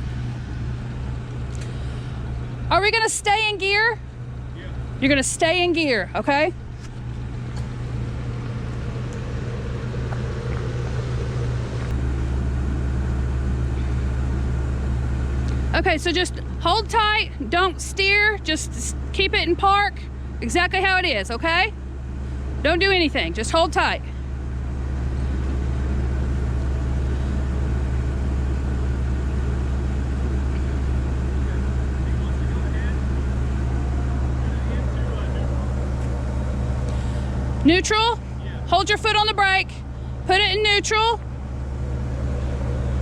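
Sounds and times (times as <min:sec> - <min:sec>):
vehicle engine droning: 0:00.0 - 0:43.0.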